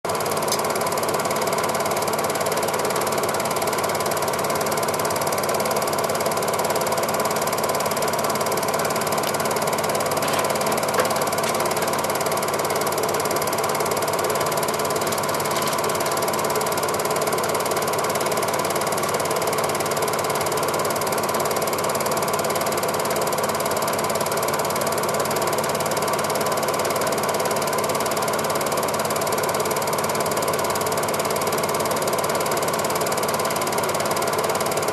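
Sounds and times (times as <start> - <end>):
film projector clattering: 0.1 - 34.9.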